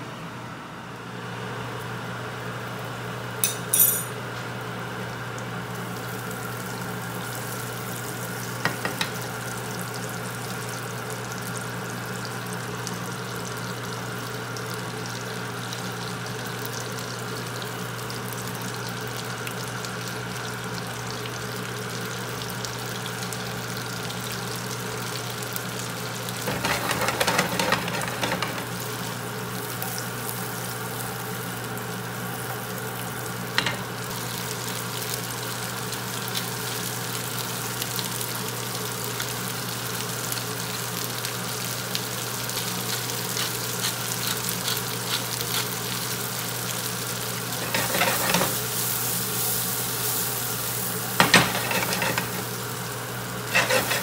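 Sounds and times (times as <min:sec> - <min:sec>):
butter sizzling in a pan: 0:05.2 - 0:54.0.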